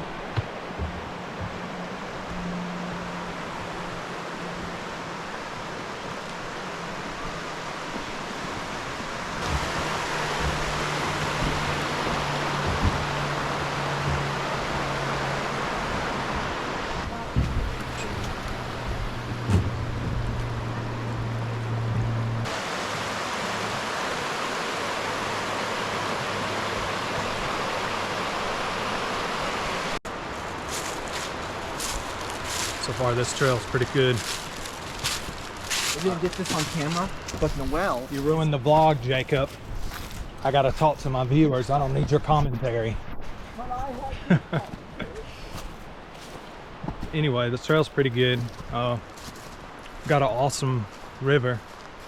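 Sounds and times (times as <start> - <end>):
rushing river water: 0.0 - 52.0.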